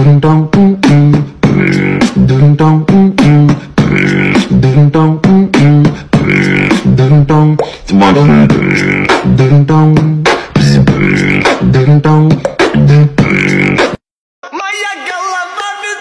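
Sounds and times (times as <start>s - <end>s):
looping percussive beat: 0.0s - 14.0s
repeating vocal-style phrase: 0.0s - 16.0s.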